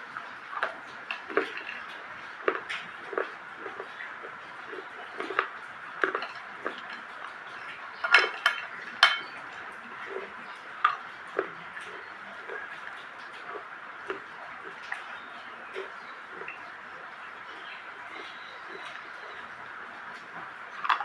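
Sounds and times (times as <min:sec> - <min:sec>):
soft steady crackle: 0:00.0 - 0:21.0.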